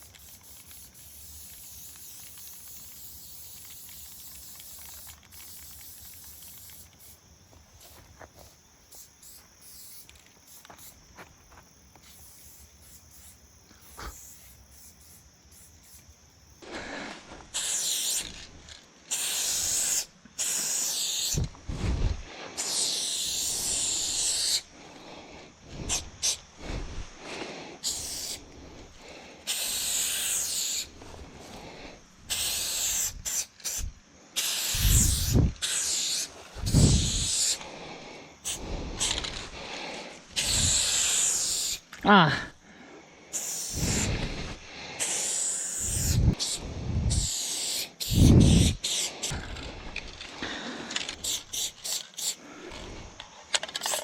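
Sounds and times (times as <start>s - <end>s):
spray paint cans hissing: 0.0s - 21.6s, 22.6s - 24.6s, 25.8s - 26.4s, 27.3s - 31.5s, 32.3s - 42.0s, 43.3s - 54.0s
faint steady high hiss: 0.0s - 54.0s.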